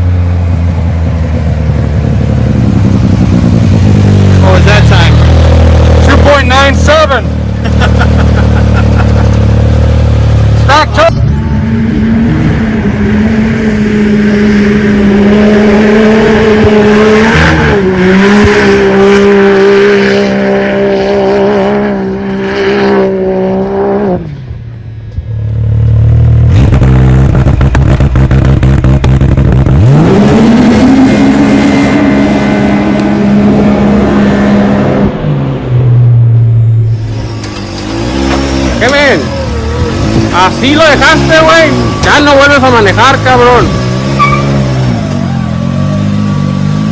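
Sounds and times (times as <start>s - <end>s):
second engine revving: 0.0s - 24.3s, 25.6s - 46.9s
engine at high revs: 1.6s - 24.3s, 25.8s - 46.9s.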